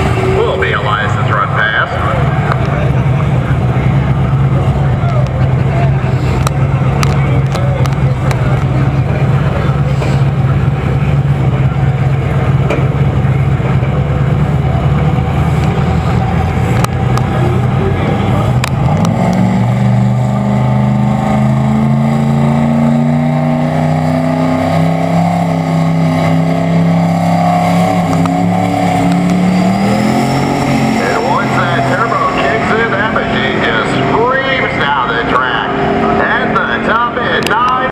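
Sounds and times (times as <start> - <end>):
car engine running loudly: 0.0 - 37.9.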